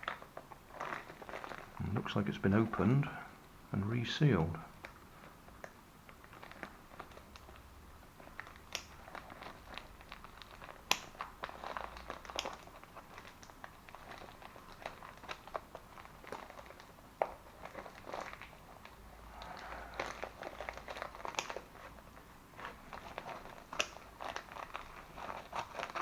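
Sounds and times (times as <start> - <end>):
packaging crinkling and rustling: 0.0 - 3.1, 4.7 - 26.0.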